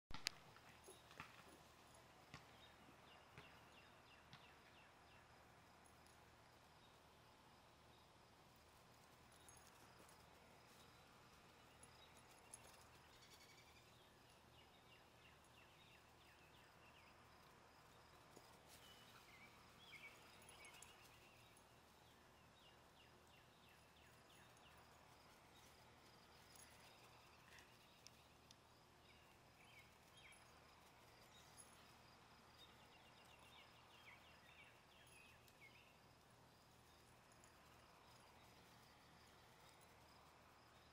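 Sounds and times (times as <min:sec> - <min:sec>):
quiet high chirping: 0:00.7 - 0:40.9.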